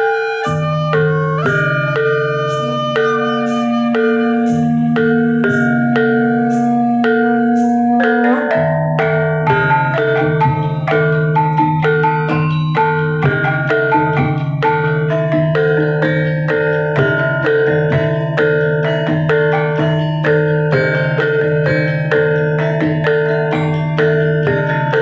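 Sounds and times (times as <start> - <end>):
dance music with mallet percussion: 0.0 - 25.0.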